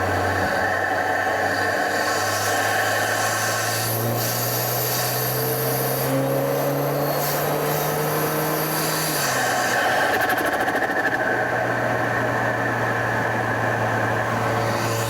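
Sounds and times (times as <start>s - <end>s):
road and cabin noise: 0.0s - 15.0s.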